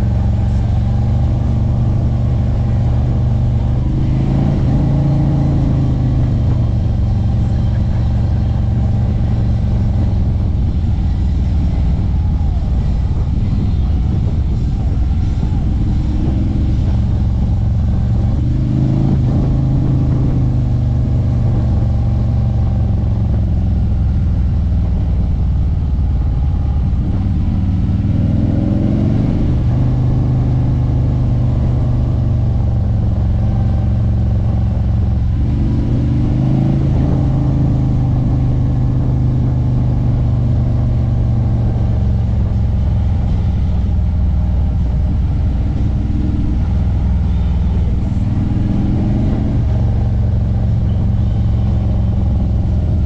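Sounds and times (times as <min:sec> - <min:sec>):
motorcycle engine cruising: 0:00.0 - 0:53.0.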